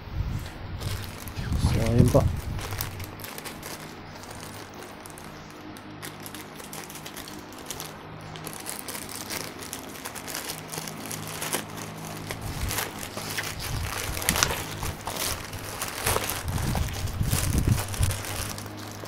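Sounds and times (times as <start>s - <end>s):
faint background music: 0.5s - 19.0s
plastic bag crinkling: 0.8s - 19.0s
scissors cutting plastic: 0.8s - 19.0s.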